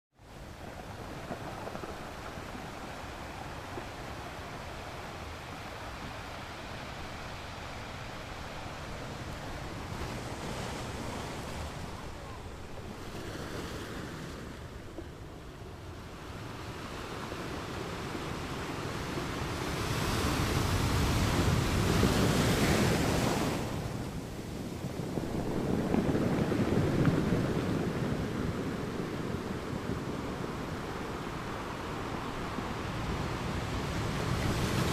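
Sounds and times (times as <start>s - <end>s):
ocean water rushing: 0.2s - 34.9s.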